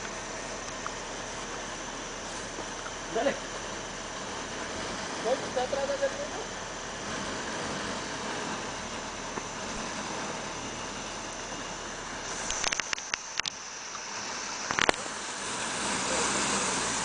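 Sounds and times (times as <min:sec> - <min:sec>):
engine idling: 0:00.0 - 0:17.0
steady hiss: 0:00.0 - 0:17.0.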